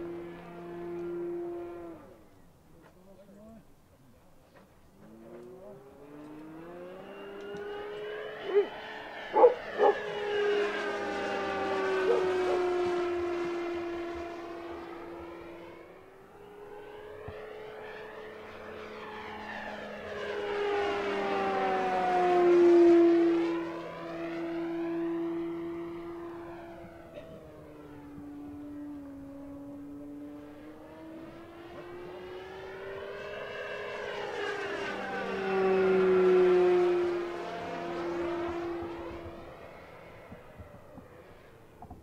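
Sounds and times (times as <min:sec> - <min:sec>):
model plane motor and propeller whine: 0:00.0 - 0:42.0.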